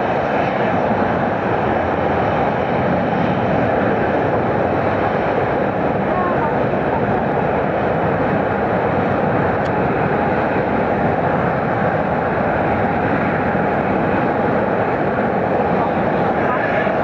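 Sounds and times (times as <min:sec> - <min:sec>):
jet airliner engine rumble: 0:00.0 - 0:17.0.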